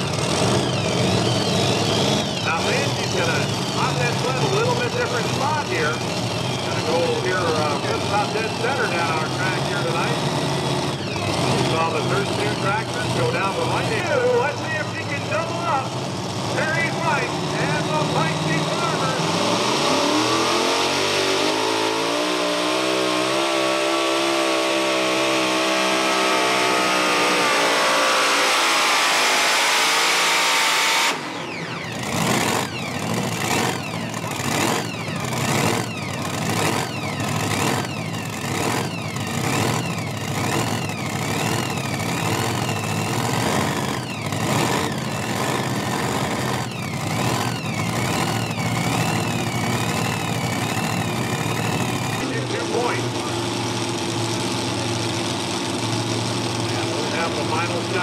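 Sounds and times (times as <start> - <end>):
engine with rhythmic lope: 0.0 - 58.0
high supercharger whine: 0.0 - 58.0
tractor engines at full throttle: 0.0 - 58.0.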